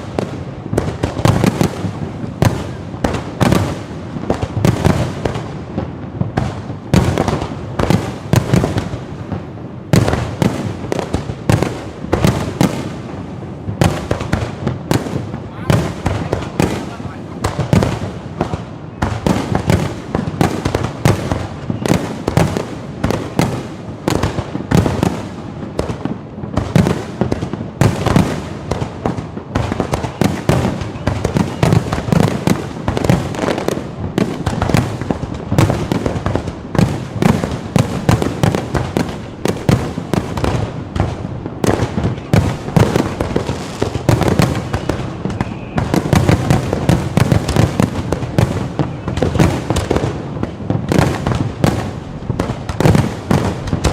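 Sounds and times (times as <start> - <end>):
fireworks booming and crackling: 0.0 - 53.9.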